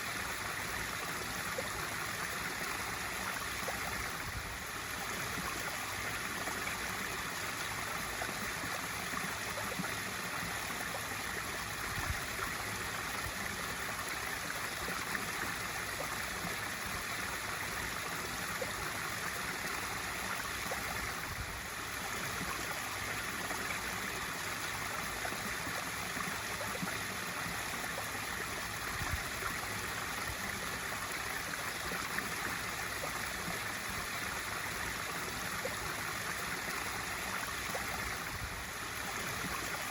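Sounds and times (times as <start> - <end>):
water pouring and splashing into pool: 0.0 - 39.9.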